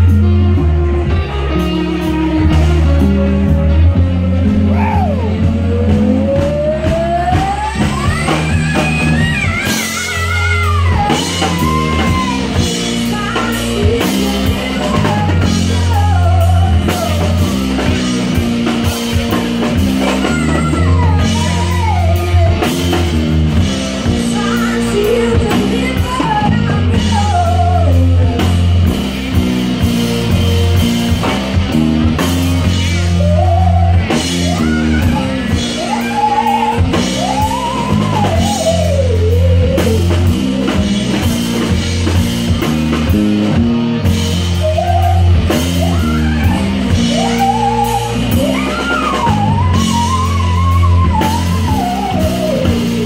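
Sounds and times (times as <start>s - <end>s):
woman singing lead: 0.0s - 29.5s, 30.7s - 53.0s
live rock band playing: 0.0s - 53.0s.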